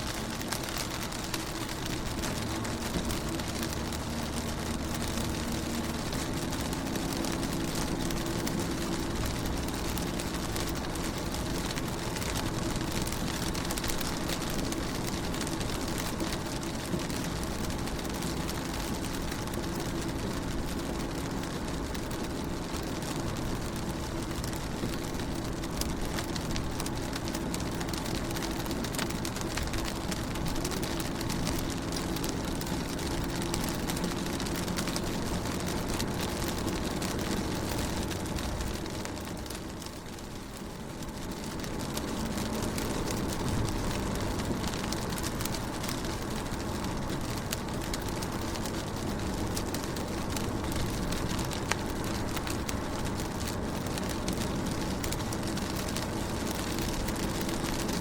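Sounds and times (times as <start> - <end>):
rain on a car window: 0.0 - 58.0.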